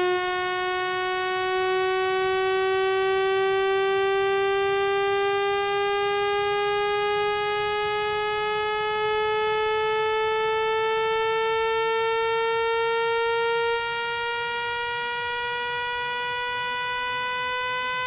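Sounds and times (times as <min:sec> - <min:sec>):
buzzy tone rising in pitch: 0:00.0 - 0:18.0.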